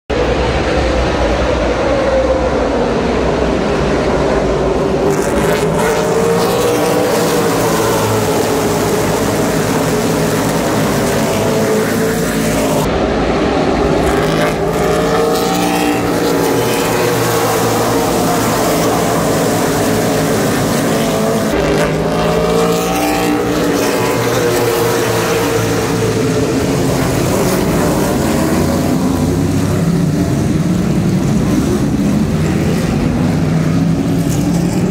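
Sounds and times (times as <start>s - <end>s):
race car engines passing by: 0.1s - 34.9s.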